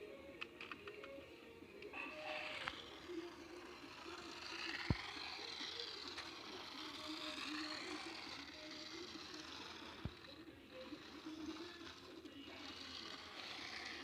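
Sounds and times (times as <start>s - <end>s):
toy car electric motor whining: 0.0s - 14.0s.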